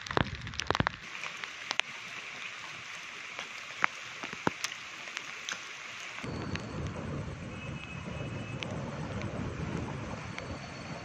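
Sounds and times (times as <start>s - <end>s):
rain hissing: 0.0s - 11.0s
raindrops tapping near microphone: 0.0s - 11.0s.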